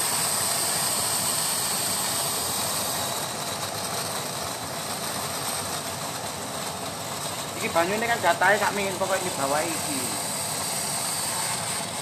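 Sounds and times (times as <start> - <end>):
steam hissing from valve: 0.0 - 12.0.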